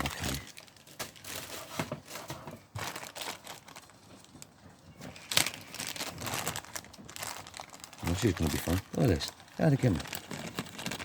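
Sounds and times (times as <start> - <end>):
plastic packets rustling and clicking: 0.0 - 11.0.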